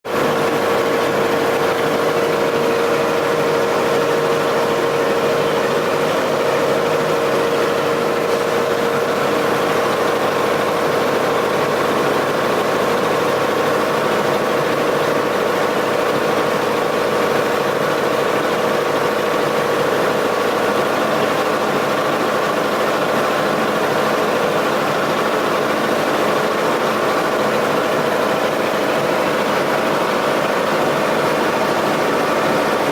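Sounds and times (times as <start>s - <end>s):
boat engine droning: 0.0s - 32.9s.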